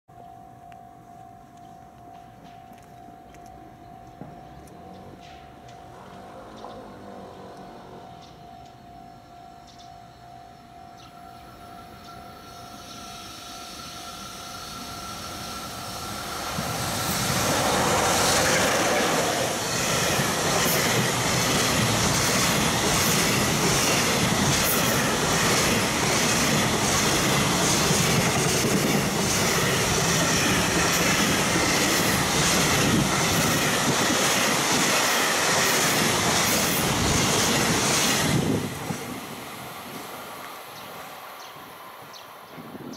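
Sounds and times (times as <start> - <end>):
freight train running noise: 0.3 - 42.9.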